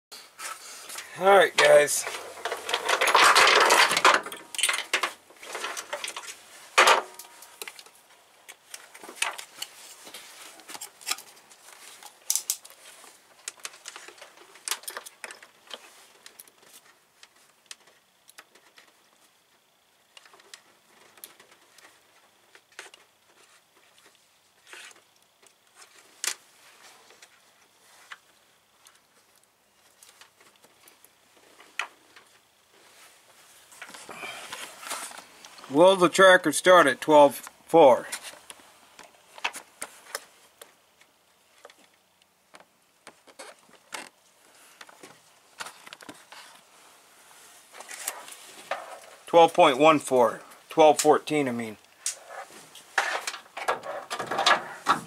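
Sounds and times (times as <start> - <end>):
rustling: 0.4 - 35.7, 42.6 - 49.3, 51.8 - 55.0.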